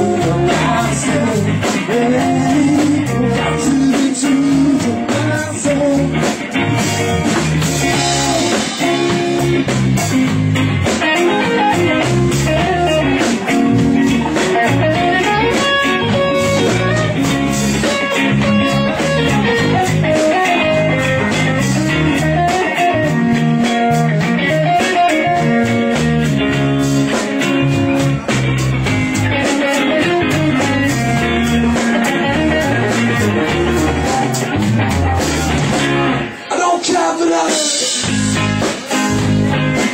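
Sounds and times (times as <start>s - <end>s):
bass guitar: 0.0s - 36.5s, 37.4s - 39.9s
drums: 0.0s - 39.9s
electric guitar: 0.0s - 39.9s.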